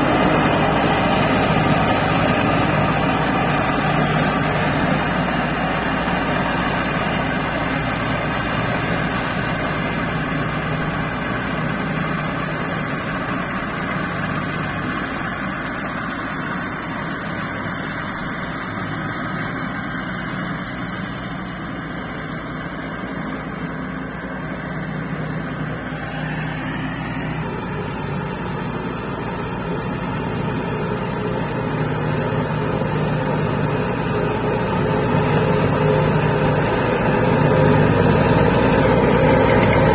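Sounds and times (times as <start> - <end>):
mower deck cutting grass: 0.0 - 39.9
mower diesel engine running: 0.0 - 39.9.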